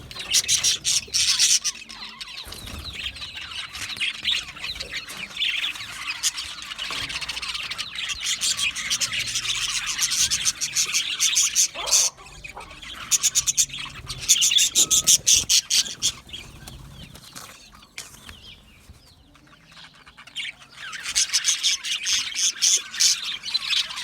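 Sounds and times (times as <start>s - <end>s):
budgerigars chirping and chattering: 0.0s - 24.0s.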